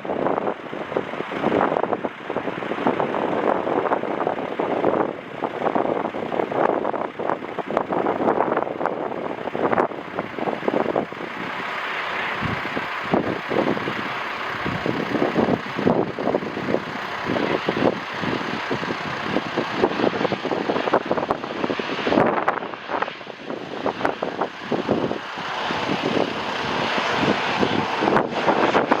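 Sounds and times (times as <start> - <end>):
jet engines roaring: 0.0 - 29.0
wind buffeting microphone: 0.0 - 29.0.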